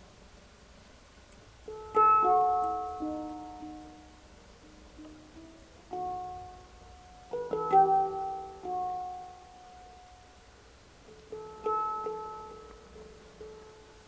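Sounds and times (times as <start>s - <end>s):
sparse instrumental notes ringing: 1.7s - 10.5s, 11.1s - 14.0s.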